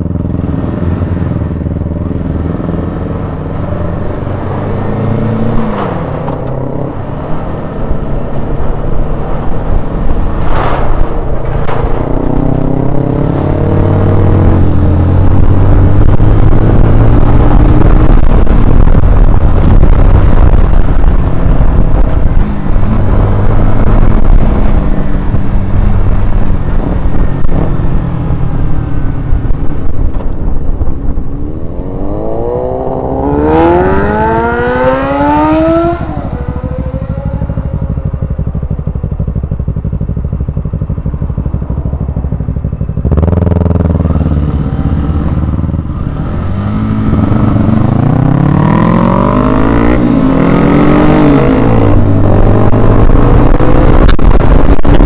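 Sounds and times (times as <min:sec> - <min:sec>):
wind rush: 0:00.0 - 0:39.6, 0:41.9 - 0:55.0
motorcycle engine revving: 0:00.0 - 0:55.0.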